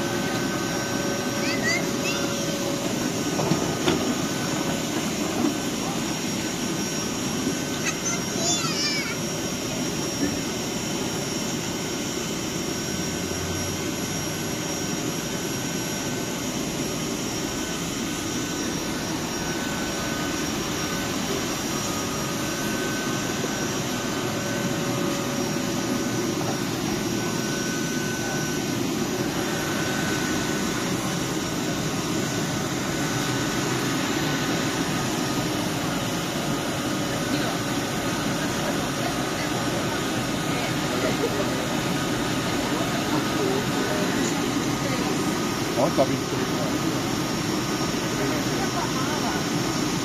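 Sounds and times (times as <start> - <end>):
train cooling fans whooshing hum: 0.0 - 50.0.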